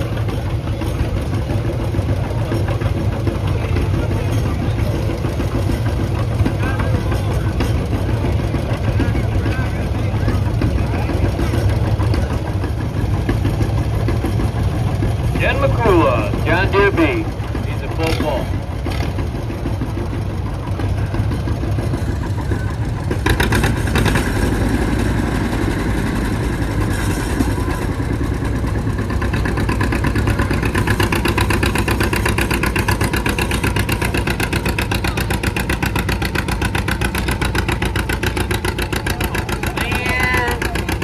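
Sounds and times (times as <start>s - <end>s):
tractor engine under load: 0.0s - 41.0s.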